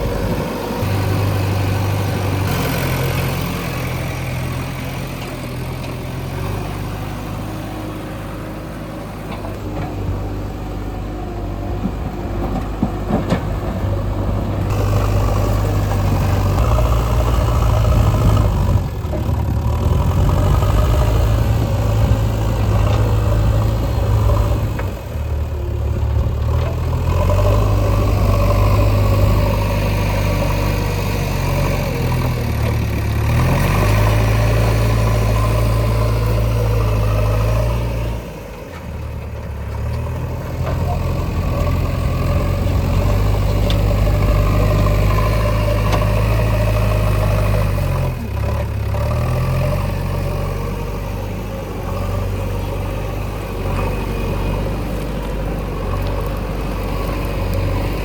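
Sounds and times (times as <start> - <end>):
heavy diesel machinery engines: 0.0 - 58.0.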